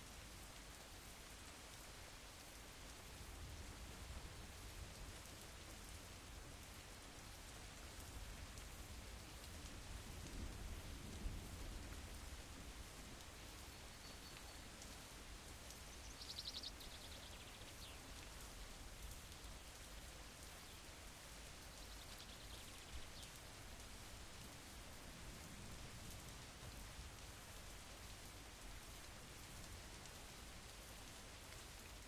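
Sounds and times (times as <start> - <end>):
soft steady rain: 0.0 - 32.0.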